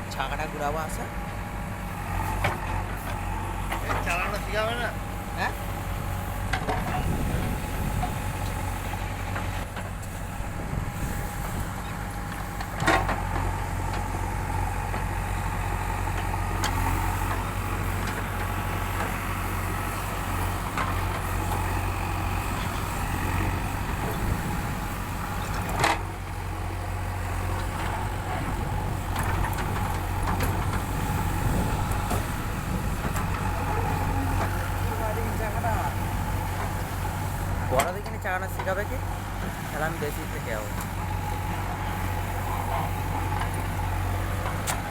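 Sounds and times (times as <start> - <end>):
diesel engine rumbling: 0.0 - 44.9.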